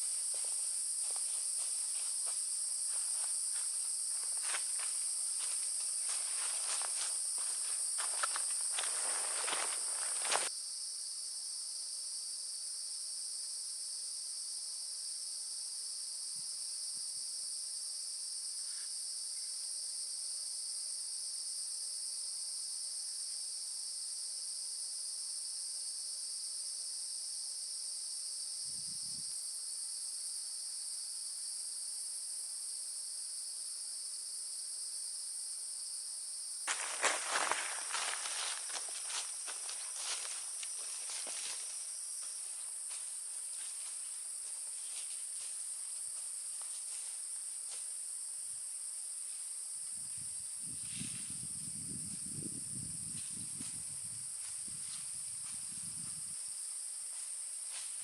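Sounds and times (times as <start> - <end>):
insect chorus drone: 0.0 - 58.0.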